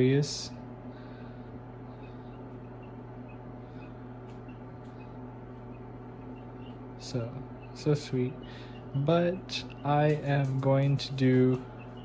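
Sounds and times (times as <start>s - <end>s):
chicks peeping: 0.0s - 12.0s
low hum: 0.0s - 12.0s.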